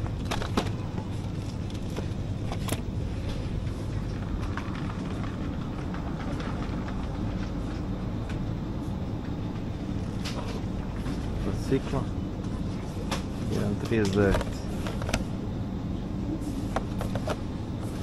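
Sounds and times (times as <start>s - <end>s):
supermarket background rumble: 0.0s - 18.0s.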